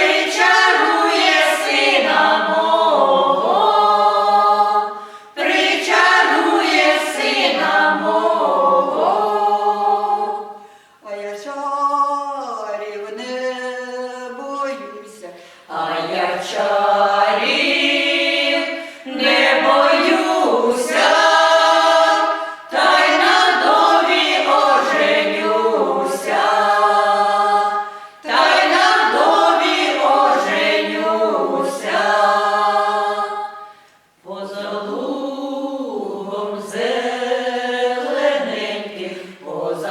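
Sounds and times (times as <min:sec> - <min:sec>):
vocal ensemble singing a cappella: 0:00.0 - 0:39.9.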